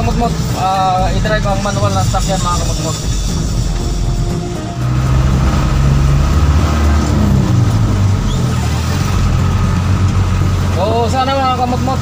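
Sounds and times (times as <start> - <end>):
truck engine drone from cab: 0.0 - 12.0.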